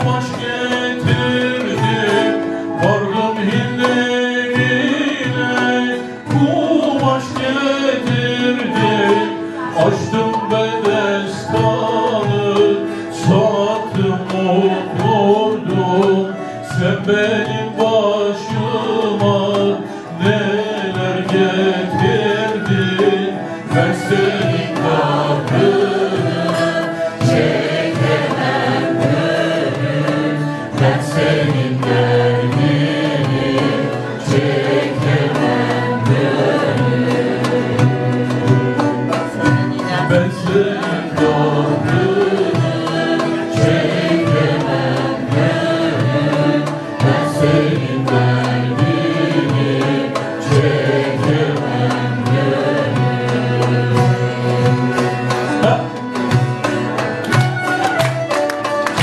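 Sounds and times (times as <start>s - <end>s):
percussion beat: 0.0s - 59.0s
plucked string instruments: 0.0s - 59.0s
voices singing: 0.0s - 59.0s.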